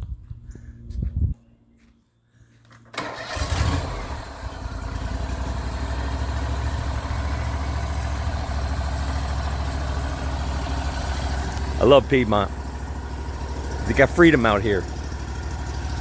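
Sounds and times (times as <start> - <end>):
sawmill engine running: 3.0 - 16.0.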